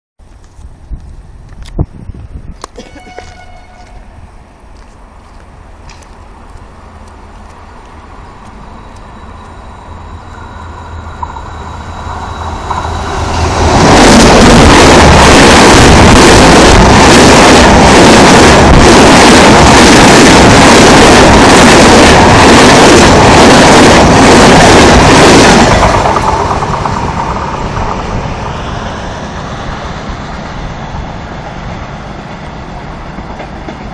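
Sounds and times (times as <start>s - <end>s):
train passing at high speed: 0.3s - 33.9s.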